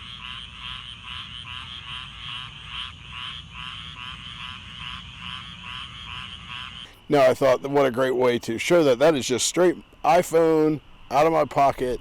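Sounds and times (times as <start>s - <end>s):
frogs trilling in chorus: 0.0s - 12.0s.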